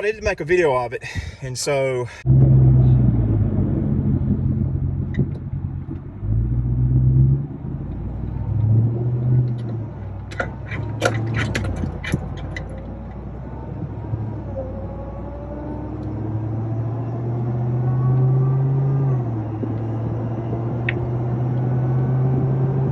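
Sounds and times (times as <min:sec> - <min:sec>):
road rumble: 0:00.0 - 0:22.9
truck engine from inside cab: 0:01.1 - 0:22.9.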